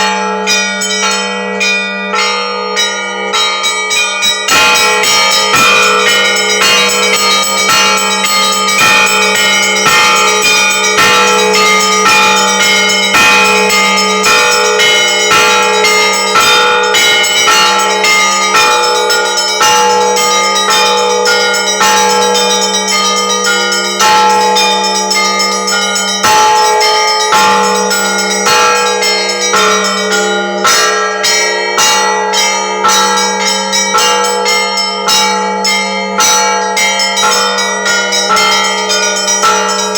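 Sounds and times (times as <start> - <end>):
large bell humming: 0.0 - 39.9
small church bells ringing: 0.0 - 39.9.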